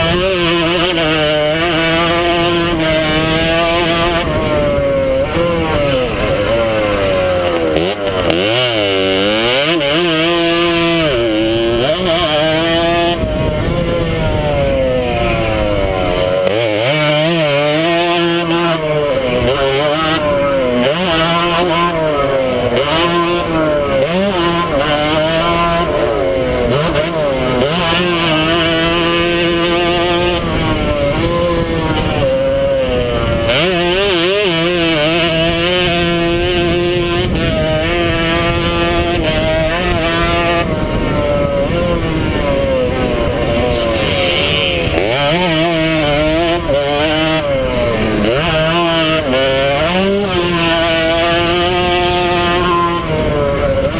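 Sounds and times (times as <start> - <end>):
motocross bike engine revving: 0.0 - 53.9
wind noise: 0.0 - 53.9.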